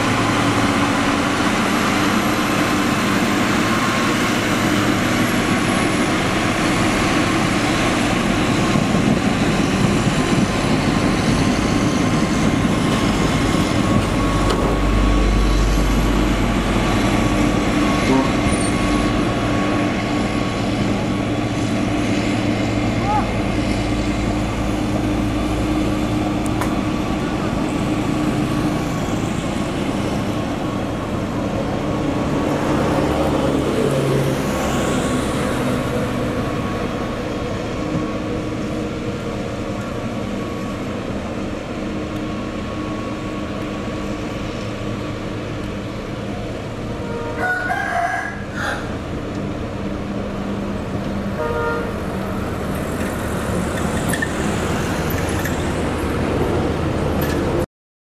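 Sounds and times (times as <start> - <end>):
diesel machinery engines running: 0.0 - 57.7
traffic passing: 0.0 - 57.7.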